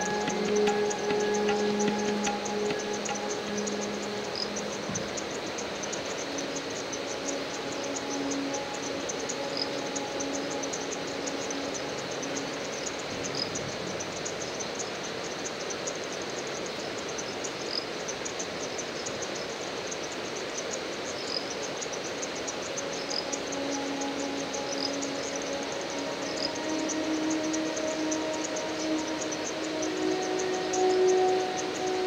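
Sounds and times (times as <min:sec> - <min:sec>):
constant hiss: 0:00.0 - 0:32.0
insects chirping: 0:00.0 - 0:32.0.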